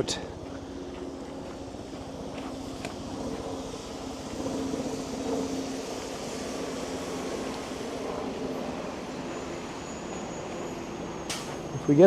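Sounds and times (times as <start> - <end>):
engine humming nearby: 0.0 - 12.0
road noise: 0.0 - 12.0.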